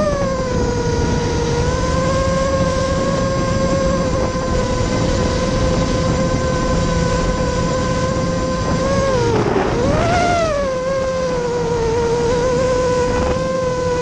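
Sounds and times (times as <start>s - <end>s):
drone motors whining: 0.0s - 14.0s
wind rush: 0.0s - 14.0s.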